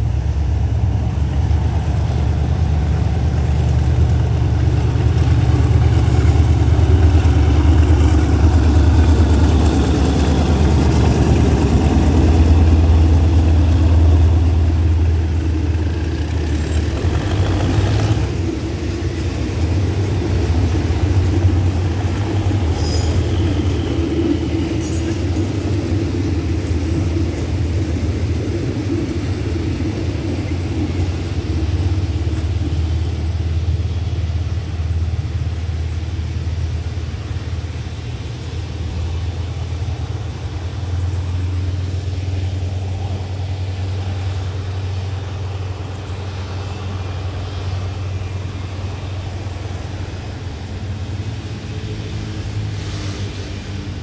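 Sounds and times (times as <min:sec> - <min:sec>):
locomotive engine drone: 0:00.0 - 0:54.0
train wheels rolling: 0:00.0 - 0:54.0.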